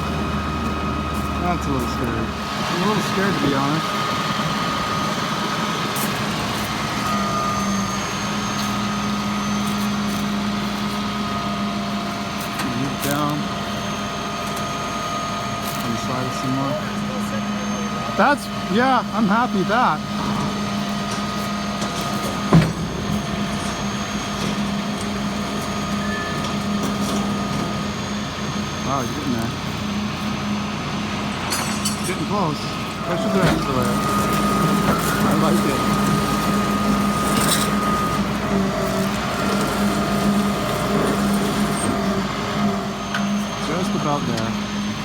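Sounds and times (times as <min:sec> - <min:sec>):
truck engine running: 0:00.0 - 0:45.0.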